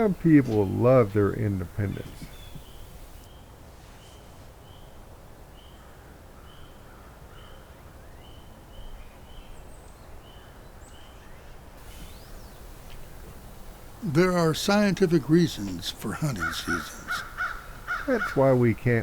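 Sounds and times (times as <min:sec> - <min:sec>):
faint bird chirps: 0:00.0 - 0:18.8
steady background hiss: 0:00.0 - 0:19.0.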